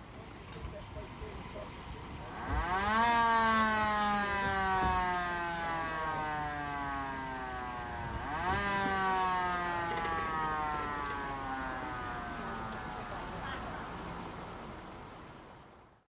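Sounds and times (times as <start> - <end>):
siren wailing: 2.3 - 15.2.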